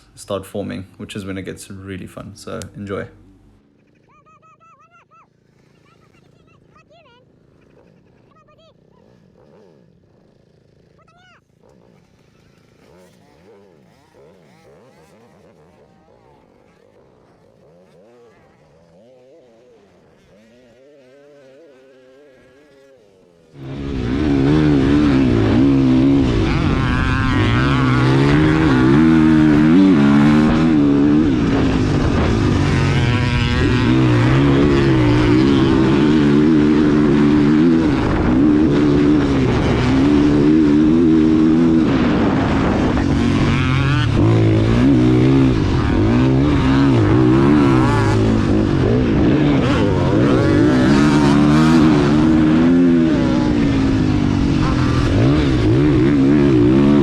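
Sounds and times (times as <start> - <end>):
dirt bike engine revving: 0.0 - 4.2, 5.3 - 57.0.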